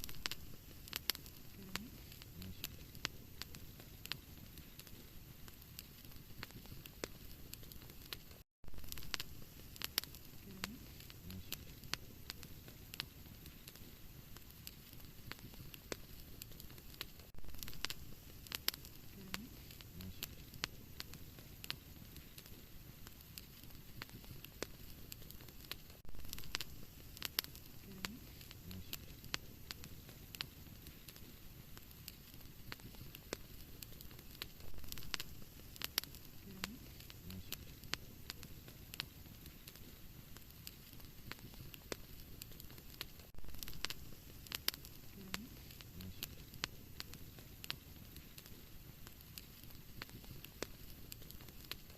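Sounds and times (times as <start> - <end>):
low rumble of flame: 0.0 - 51.9
wood fire crackling: 0.0 - 51.9.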